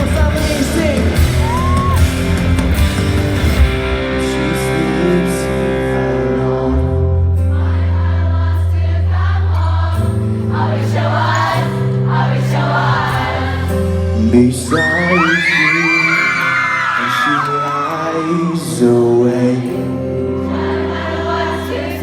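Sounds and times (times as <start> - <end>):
band playing rock ballad: 0.0 - 22.0
voices singing: 4.2 - 22.0.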